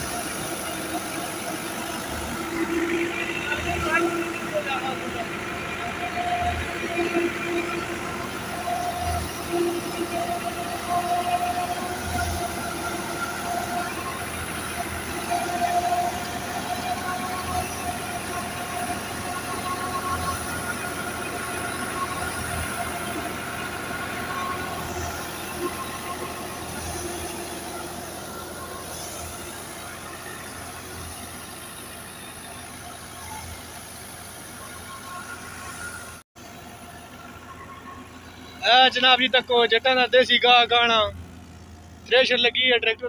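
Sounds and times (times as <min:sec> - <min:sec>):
thresher and tractor droning: 0:00.0 - 0:43.0.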